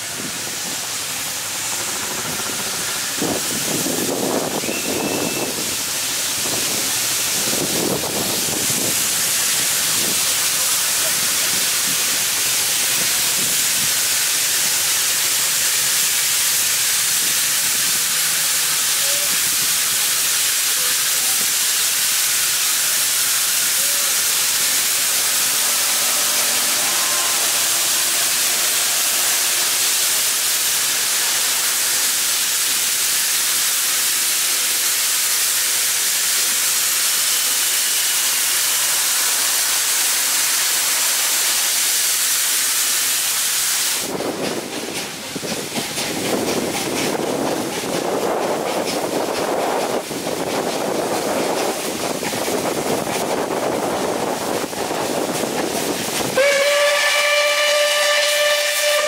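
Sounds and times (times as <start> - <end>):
steam locomotive venting steam: 0.0 - 59.0.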